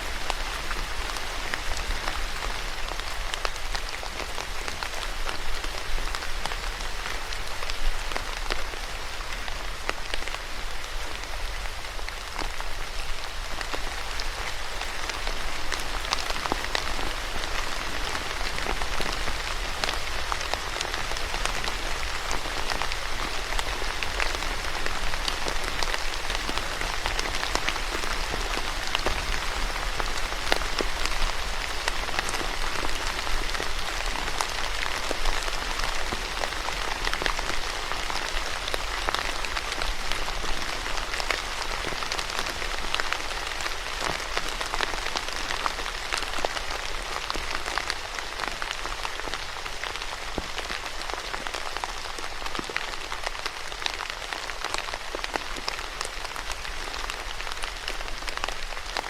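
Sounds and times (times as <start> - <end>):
rain pattering on surfaces: 0.0 - 59.0.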